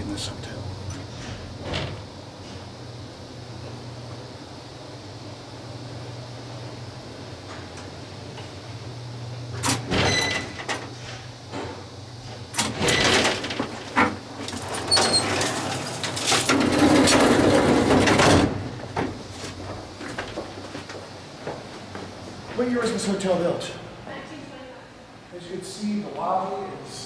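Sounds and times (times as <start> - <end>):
elevator hum: 0.0 - 27.0.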